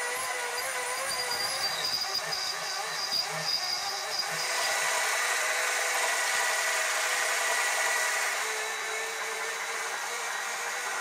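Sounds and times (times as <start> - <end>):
lathe motor whine with hiss: 0.0 - 11.0.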